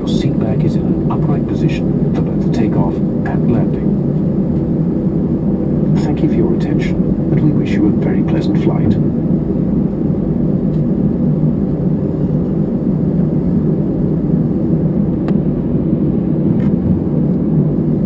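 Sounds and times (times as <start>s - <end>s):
jet engines idling rumble: 0.0s - 18.0s.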